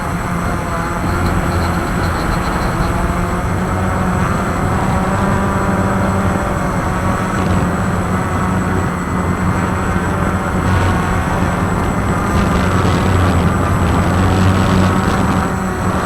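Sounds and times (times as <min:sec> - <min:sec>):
quadcopter motors whirring: 0:00.0 - 0:16.0.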